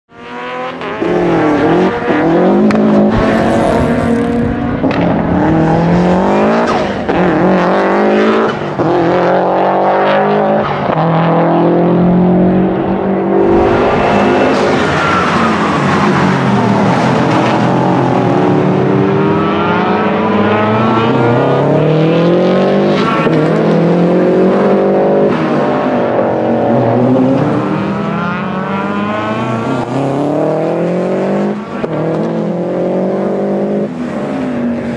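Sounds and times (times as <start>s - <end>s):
rally car engine revving hard: 0.1s - 34.9s.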